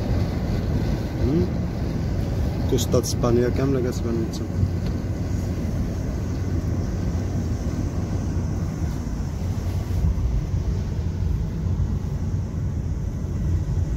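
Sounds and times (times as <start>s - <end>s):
car engine rumble: 0.0s - 13.9s
wind noise: 0.0s - 13.9s.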